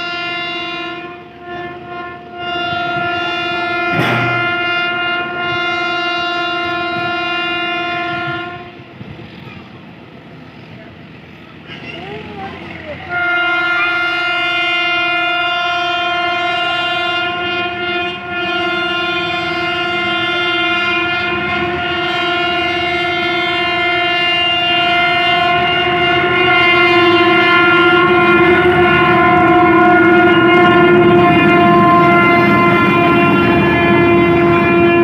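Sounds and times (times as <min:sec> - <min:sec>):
diesel locomotive horn blast: 0:00.0 - 0:09.4, 0:10.3 - 0:35.0
train approaching at full throttle: 0:00.0 - 0:35.0.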